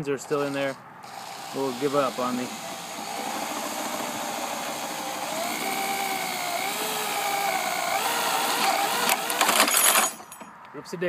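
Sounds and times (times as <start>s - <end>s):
drill bit cutting whine: 0.2s - 9.5s
power drill boring into lock: 0.2s - 10.4s.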